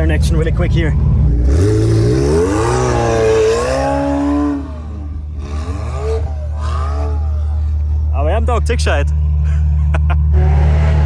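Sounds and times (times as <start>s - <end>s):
sports car engine revving: 0.1s - 11.0s.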